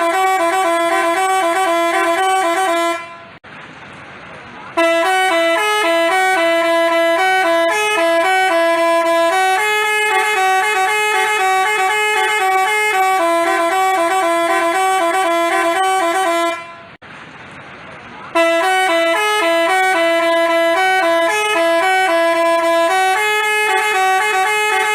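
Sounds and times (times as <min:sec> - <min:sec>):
multi-tone bus horn tune: 0:00.0 - 0:03.4, 0:04.7 - 0:17.0, 0:18.3 - 0:24.9.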